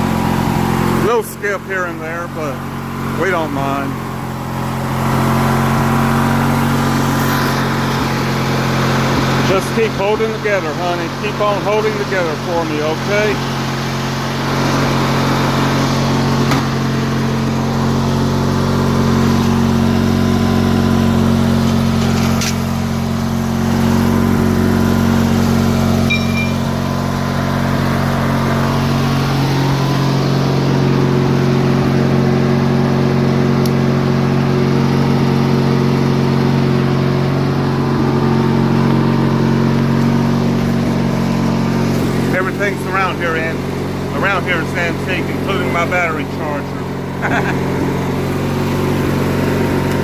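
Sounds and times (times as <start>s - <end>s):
riding mower engine running: 0.0s - 50.0s.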